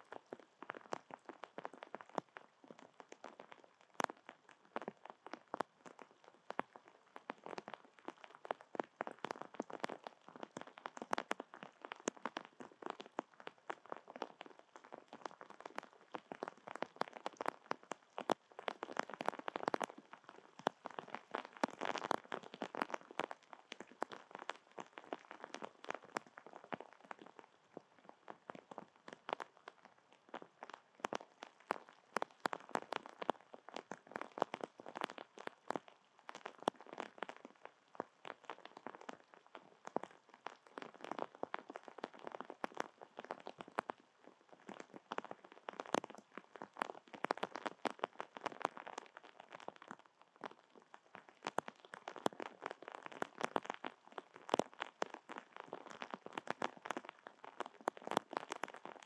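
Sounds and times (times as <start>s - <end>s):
rain drops ticking on hard surfaces: 0.0s - 59.0s.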